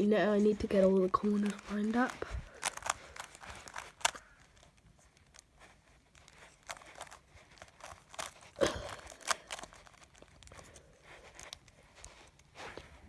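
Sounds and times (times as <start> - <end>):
plastic puzzle cube clicking: 0.2 - 12.5.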